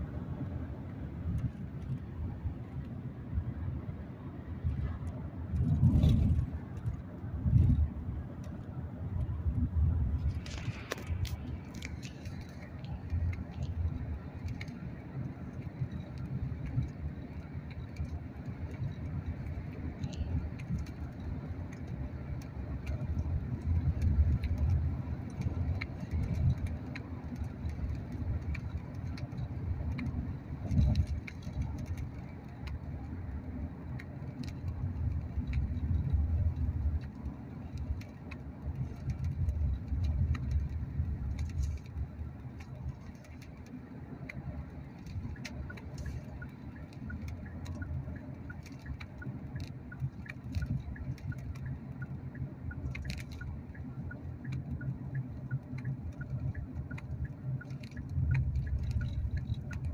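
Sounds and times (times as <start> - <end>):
car interior road rumble: 0.0 - 59.9
faint clicks and rattles: 4.6 - 59.9.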